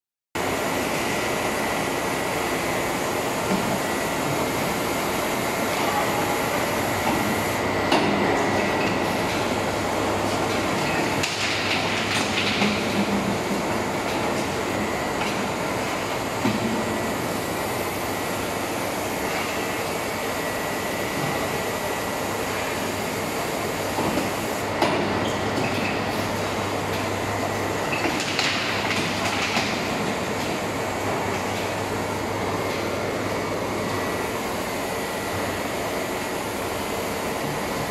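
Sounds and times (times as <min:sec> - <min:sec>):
filling line machine noise: 0:00.4 - 0:37.9.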